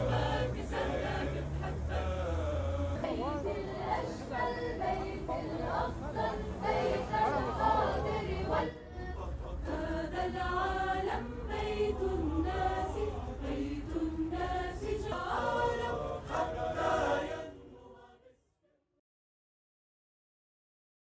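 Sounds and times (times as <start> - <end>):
group singing slow melody: 0.0 - 18.4.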